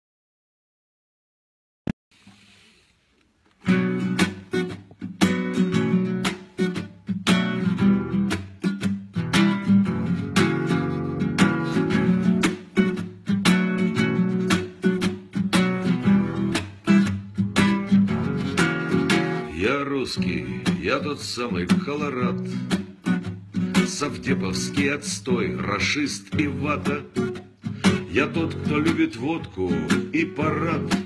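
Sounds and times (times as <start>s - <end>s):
strummed acoustic guitar: 3.6s - 31.0s.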